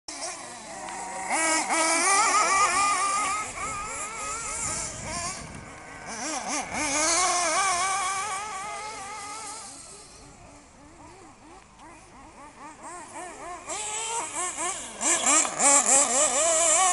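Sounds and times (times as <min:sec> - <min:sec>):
small engines revving: 0:00.1 - 0:16.9.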